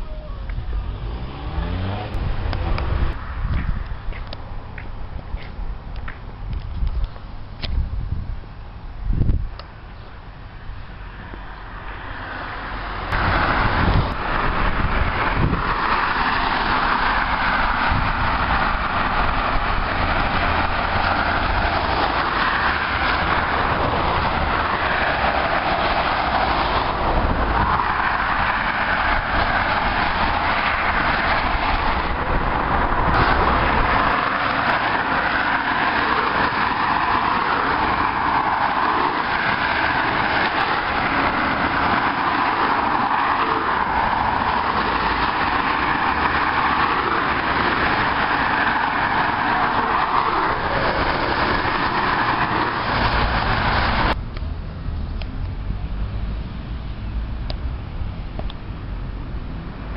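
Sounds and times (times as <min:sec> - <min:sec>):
traffic rushing past: 0:00.0 - 0:59.9.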